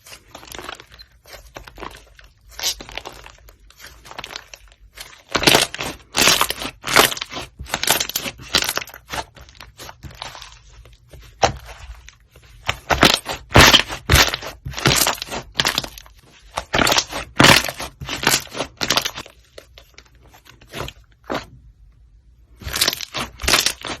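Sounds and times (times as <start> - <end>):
slime crackling when squished: 0.1 - 19.3, 22.6 - 24.0.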